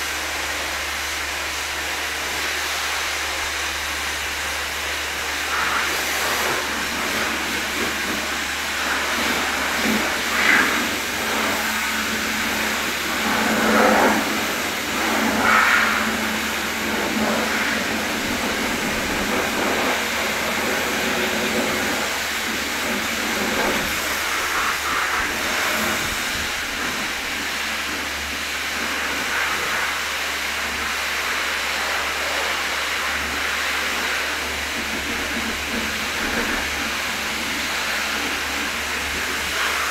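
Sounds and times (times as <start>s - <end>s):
constant low hum: 0.0s - 39.9s
hose spray hissing: 2.1s - 39.9s.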